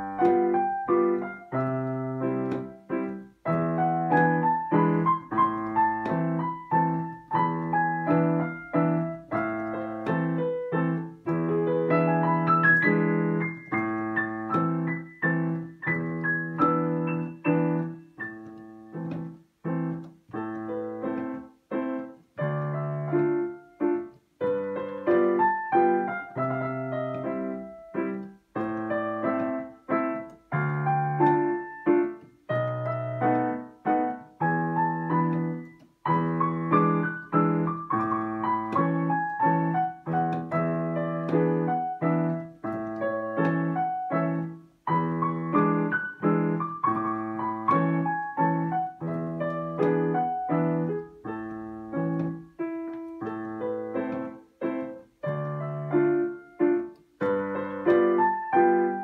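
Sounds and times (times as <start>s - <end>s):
piano playing: 0.0s - 59.0s.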